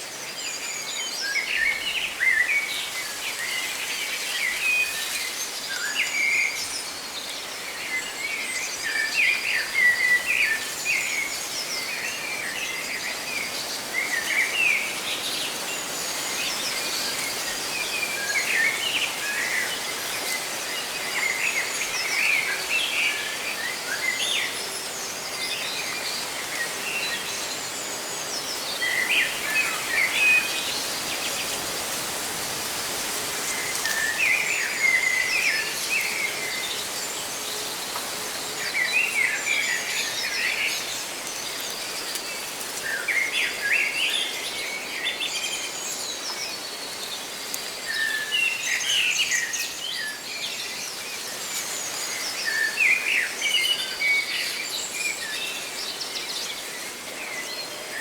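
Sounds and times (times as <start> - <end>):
leaves rustling: 0.0 - 58.0.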